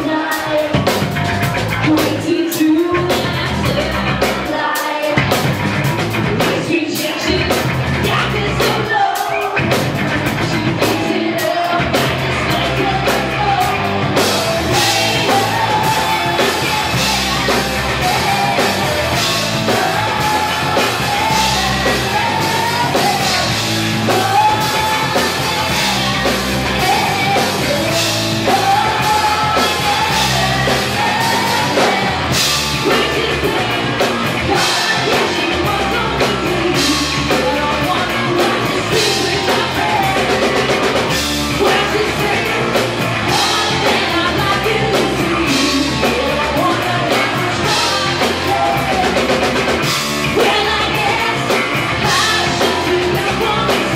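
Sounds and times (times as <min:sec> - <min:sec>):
bass guitar: 0:00.0 - 0:53.9
drum kit beat: 0:00.0 - 0:53.9
electric guitar: 0:00.0 - 0:53.9
lead vocals singing: 0:00.0 - 0:53.9.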